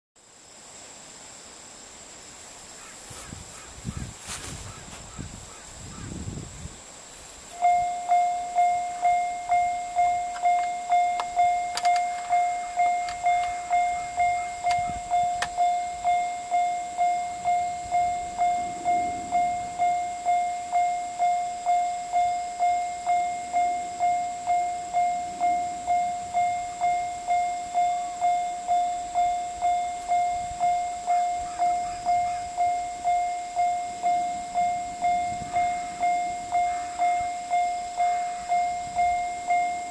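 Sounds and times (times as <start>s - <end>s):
level crossing bell ringing: 7.6s - 39.9s.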